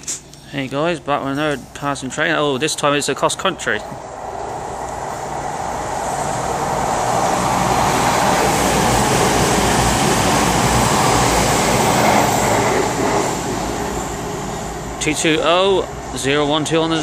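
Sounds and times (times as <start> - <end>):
train passing at speed: 1.2 - 17.0.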